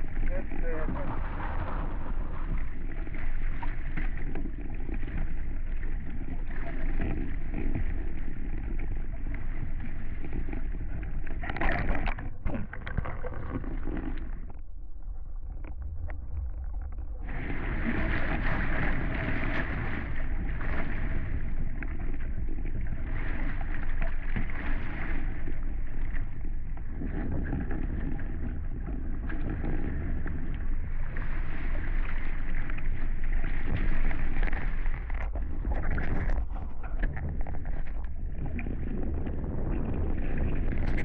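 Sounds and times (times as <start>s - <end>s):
water rushing along boat hulls: 0.0s - 41.0s
wind rumble on microphone: 0.0s - 41.0s.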